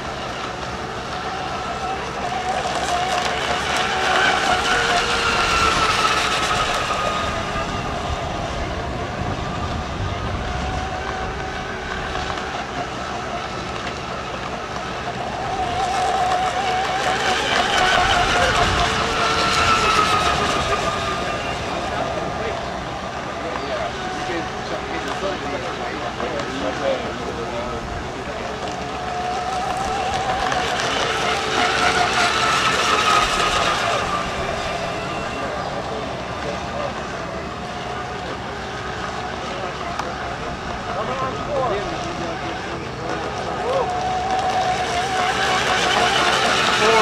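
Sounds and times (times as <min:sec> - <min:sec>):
racing boat motor whine: 0:00.0 - 0:47.0.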